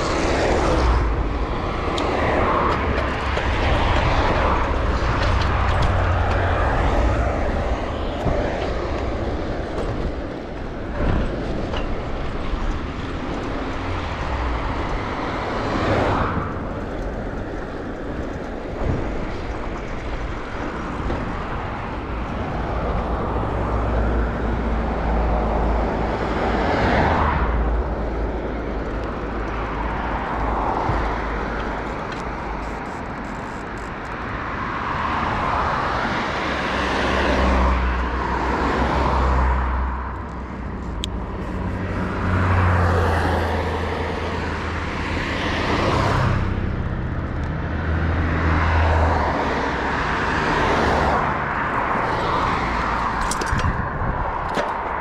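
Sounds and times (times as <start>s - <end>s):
vehicles passing: 0.0s - 55.0s
wind rumbling on microphone: 0.0s - 55.0s.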